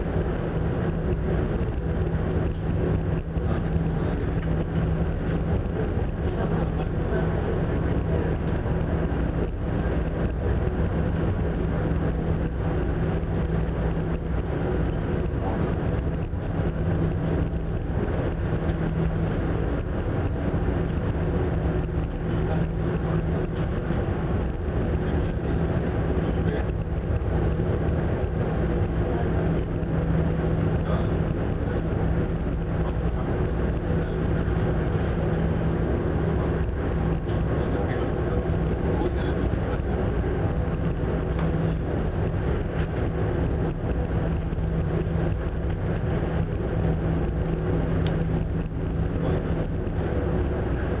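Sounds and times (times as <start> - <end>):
ferry engines droning: 0.0 - 51.0.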